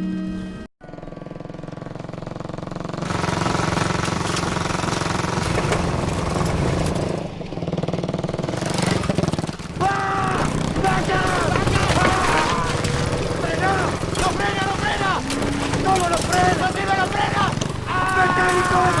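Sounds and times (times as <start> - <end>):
motorcycle engine running: 0.8 - 19.0.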